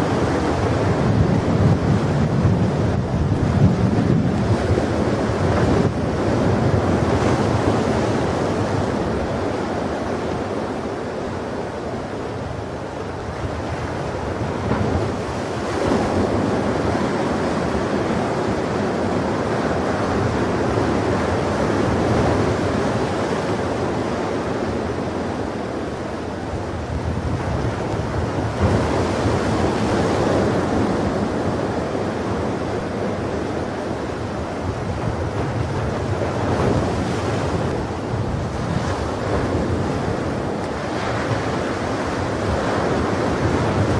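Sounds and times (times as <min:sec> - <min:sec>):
waves washing onto a beach: 0:00.0 - 0:43.9.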